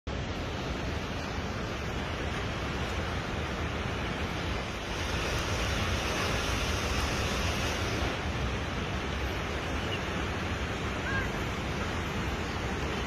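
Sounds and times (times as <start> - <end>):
flooded river rushing: 0.1 - 13.0.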